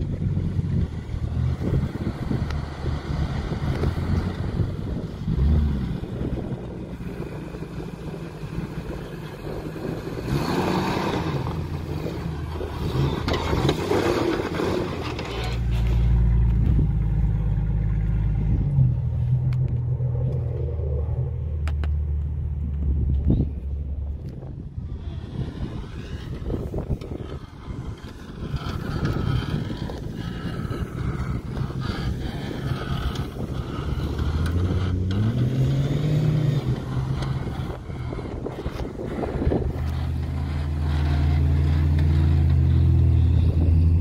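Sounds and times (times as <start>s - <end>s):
engine droning: 0.0s - 44.0s.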